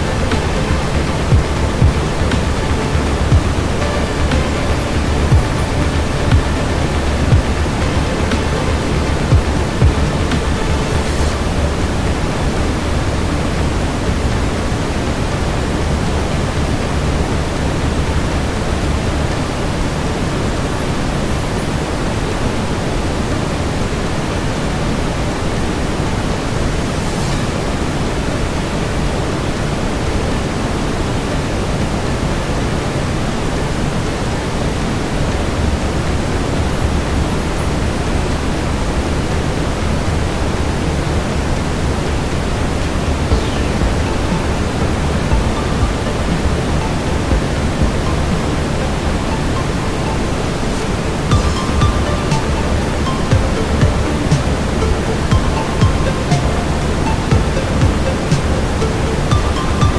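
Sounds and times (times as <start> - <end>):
low rushing brown noise: 0.0 - 59.9.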